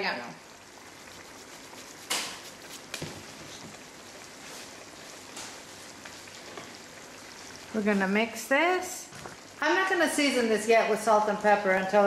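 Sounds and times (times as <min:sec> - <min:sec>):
sauce sizzling and bubbling: 0:00.0 - 0:12.0.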